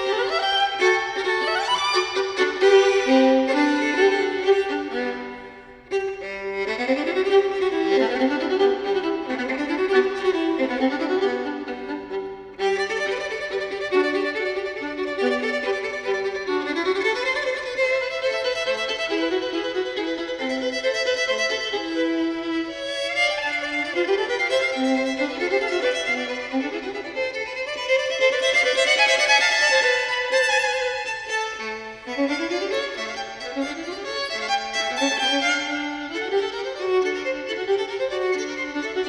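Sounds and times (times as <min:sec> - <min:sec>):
violin duet: 0:00.0 - 0:39.0.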